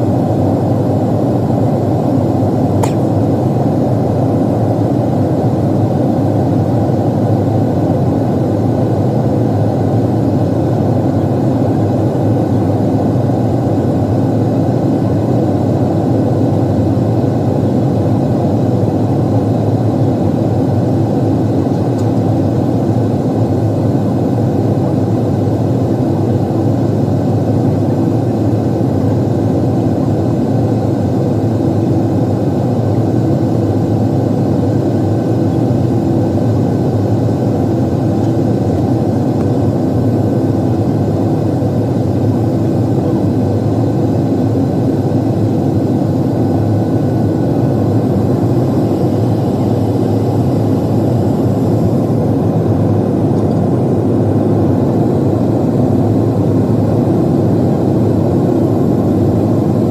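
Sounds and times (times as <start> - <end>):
jet cabin engine and airflow noise: 0.0 - 59.9.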